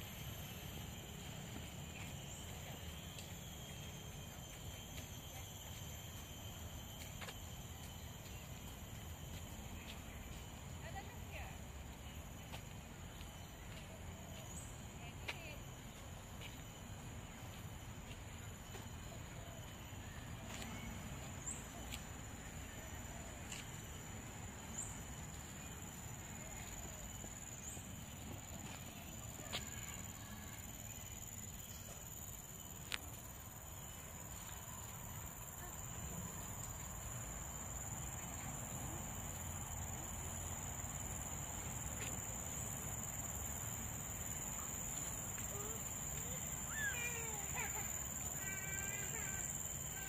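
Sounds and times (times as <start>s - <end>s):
insects shrill drone: 0.0s - 50.0s.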